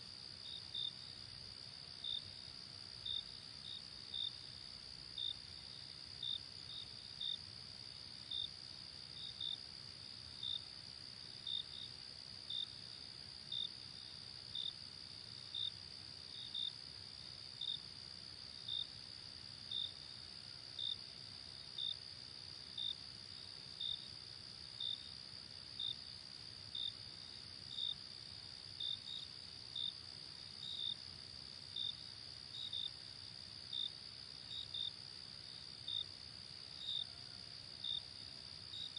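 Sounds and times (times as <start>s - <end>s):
insect chirping: 0.2s - 38.9s.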